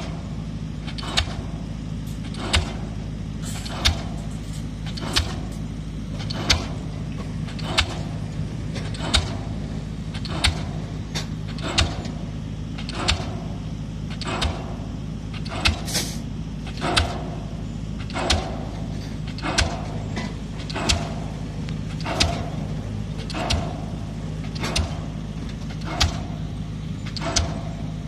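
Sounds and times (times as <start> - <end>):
diesel engine hum: 0.0 - 28.0
pile driver hammer striking: 0.8 - 1.6, 2.2 - 28.0.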